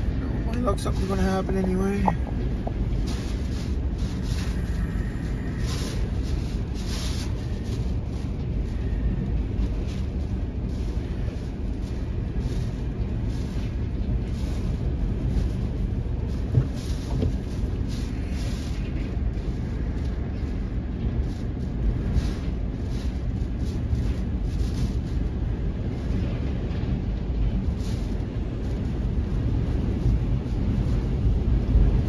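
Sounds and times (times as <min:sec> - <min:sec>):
rain spattering windshield: 0:00.0 - 0:32.0
wind buffeting a car: 0:00.0 - 0:32.0.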